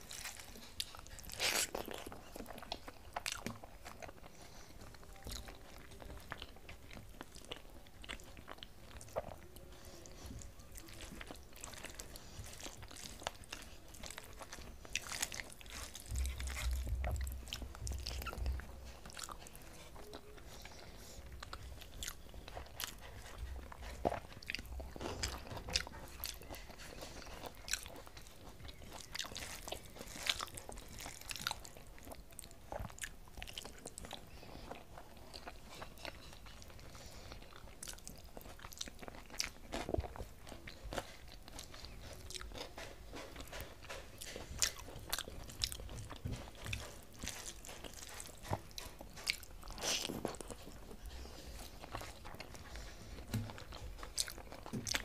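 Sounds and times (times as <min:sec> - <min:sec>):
chewing and biting food: 0:00.0 - 0:55.0.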